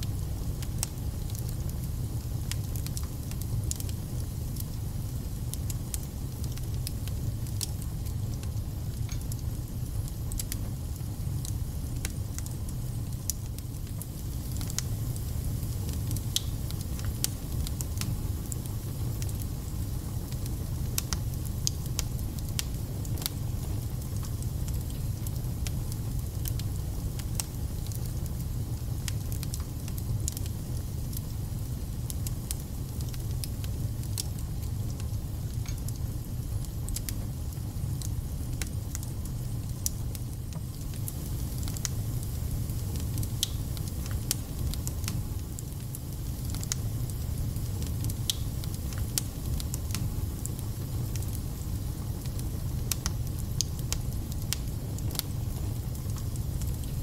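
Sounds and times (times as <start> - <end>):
fire rumbling: 0.0 - 57.0.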